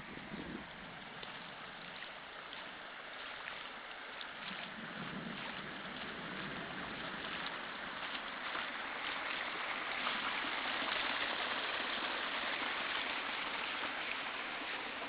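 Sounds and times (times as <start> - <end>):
rainwater rushing over grass: 0.0 - 15.0.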